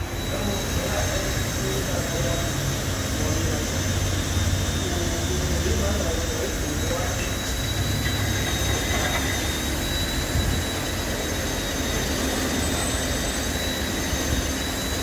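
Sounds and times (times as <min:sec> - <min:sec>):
mechanical running noise: 0:00.0 - 0:15.0
thin high whine: 0:00.0 - 0:15.0.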